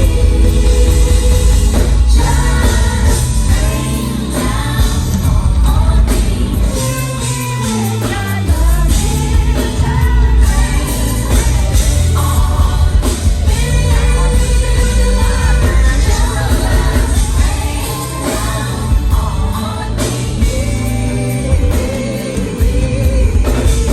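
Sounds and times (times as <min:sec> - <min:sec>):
band with heavy bass: 0:00.0 - 0:23.9
women singing: 0:00.0 - 0:23.9.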